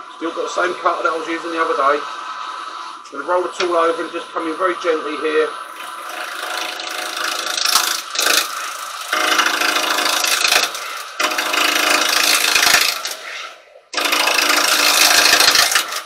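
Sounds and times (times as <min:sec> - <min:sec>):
chisel cutting wood on lathe: 0:02.7 - 0:16.0.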